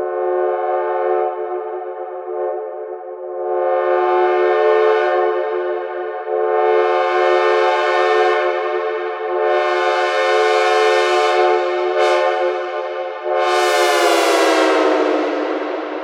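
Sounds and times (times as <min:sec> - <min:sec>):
synthesized train horn chord: 0:00.1 - 0:16.0.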